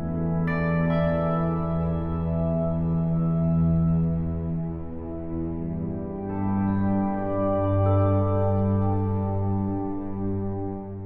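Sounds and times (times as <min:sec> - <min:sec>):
ambient sustained chord: 0:00.0 - 0:11.0.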